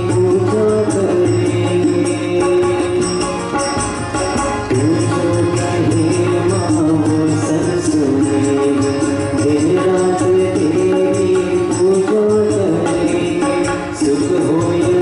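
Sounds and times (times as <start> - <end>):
harmonium tones: 0.0 - 15.0
man singing: 0.0 - 15.0
tabla strokes: 0.0 - 15.0.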